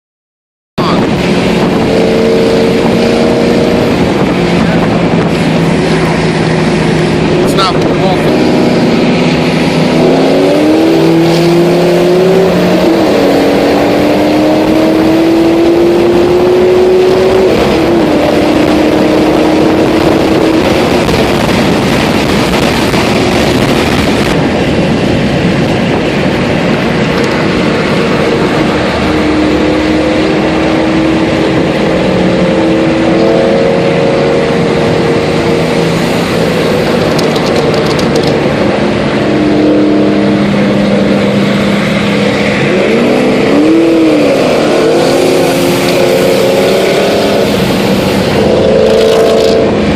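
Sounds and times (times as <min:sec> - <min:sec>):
car engine accelerating: 0:00.8 - 0:49.9
rushing noise of speed: 0:00.8 - 0:49.9.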